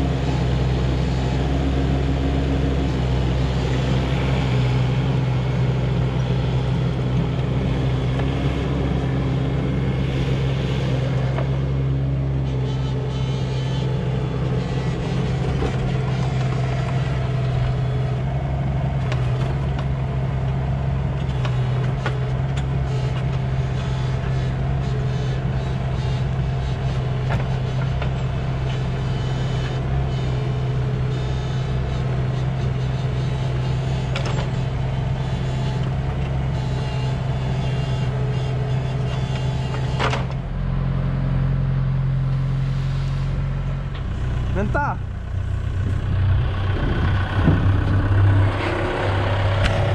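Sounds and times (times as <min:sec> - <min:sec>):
excavator diesel engine: 0:00.0 - 0:49.9
tractor engine: 0:00.0 - 0:49.9.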